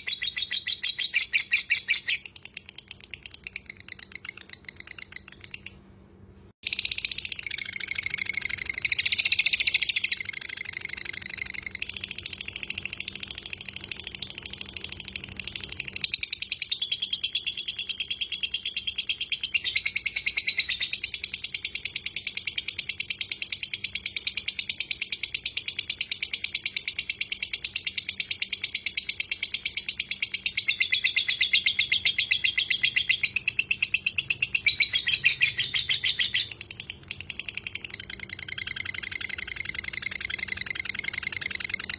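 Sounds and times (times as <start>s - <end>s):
lovebird chattering trill: 0.0s - 5.8s, 6.6s - 41.9s.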